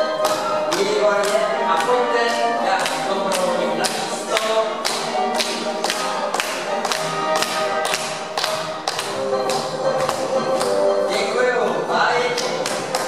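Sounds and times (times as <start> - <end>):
dance music over loudspeaker: 0.0 - 13.0.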